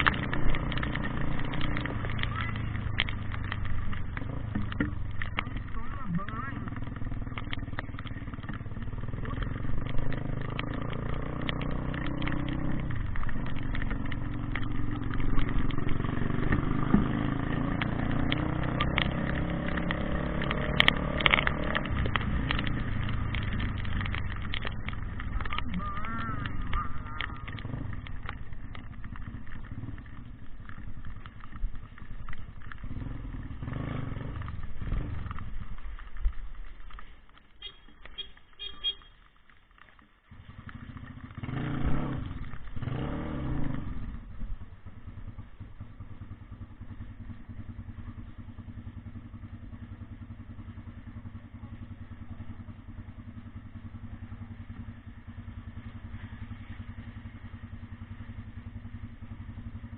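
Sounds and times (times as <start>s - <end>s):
engine running: 0.0s - 39.1s, 40.3s - 59.9s.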